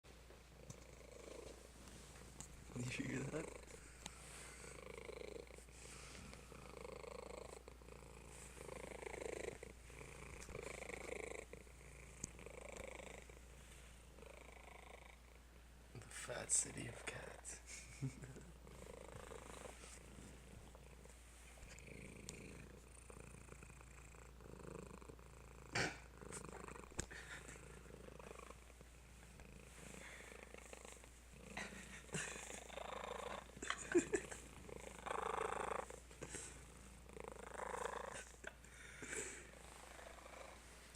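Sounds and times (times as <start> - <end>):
cat purring: 0.4 - 40.9.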